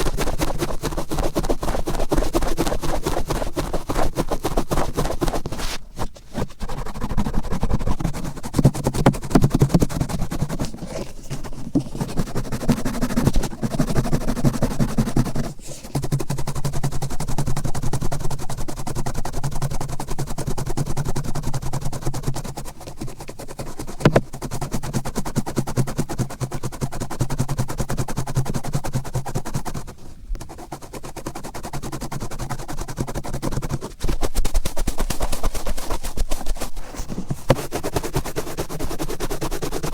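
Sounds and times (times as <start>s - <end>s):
cotton swab scratching in ear: 0.0s - 17.5s, 19.5s - 39.9s.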